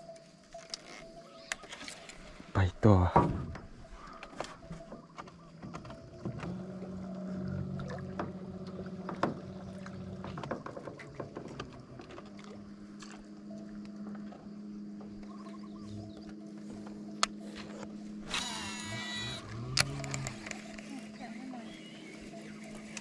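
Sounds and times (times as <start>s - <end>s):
steady low hum: 2.3s - 23.0s.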